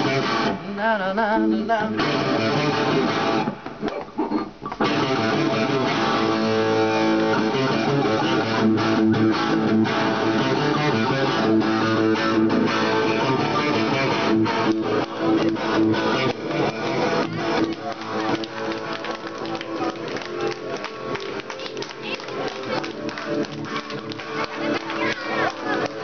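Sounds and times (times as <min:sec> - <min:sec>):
electric guitar chords: 0:00.0 - 0:26.0.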